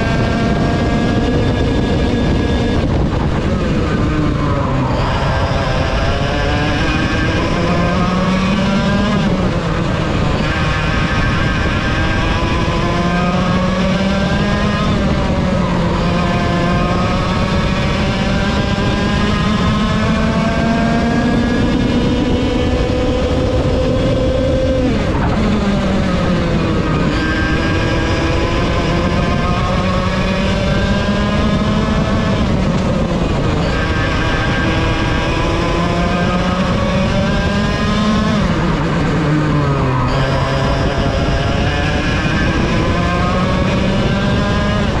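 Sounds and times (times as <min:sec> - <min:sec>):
kart engine at racing speed: 0:00.0 - 0:45.0.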